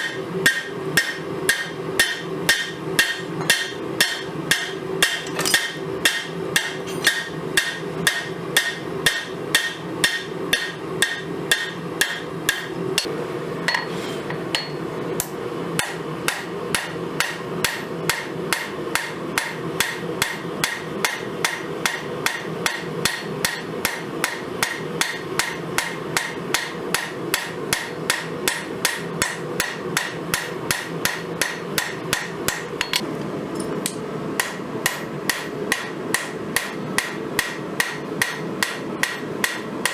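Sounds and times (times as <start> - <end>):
hammer striking steel on anvil: 0.0 - 13.1, 14.5 - 39.9
constant background hum: 0.0 - 39.9.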